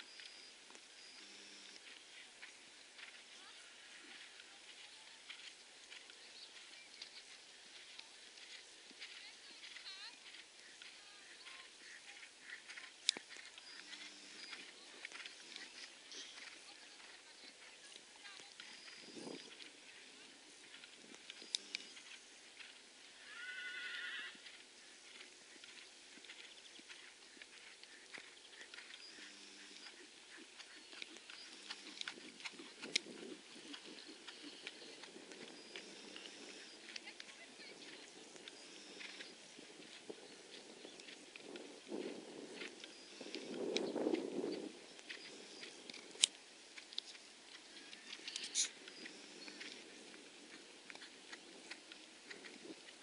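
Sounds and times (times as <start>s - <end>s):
horse hooves trotting on grass: 0.0s - 53.0s.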